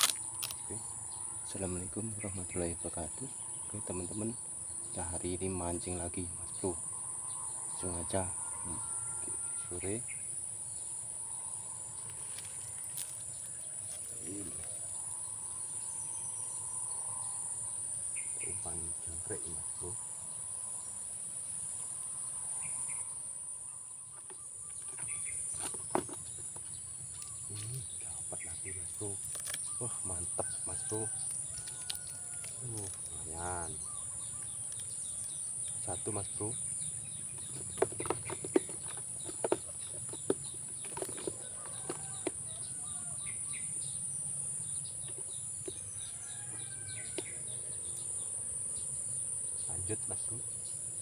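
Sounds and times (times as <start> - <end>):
faint bird chirps: 0.0 - 44.0
insect chorus drone: 0.0 - 51.0.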